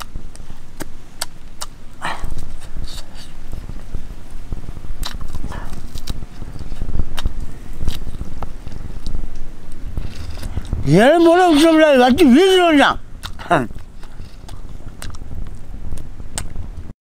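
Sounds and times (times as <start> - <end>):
man chewing with mouth clicks: 0.0 - 11.4, 13.1 - 16.8.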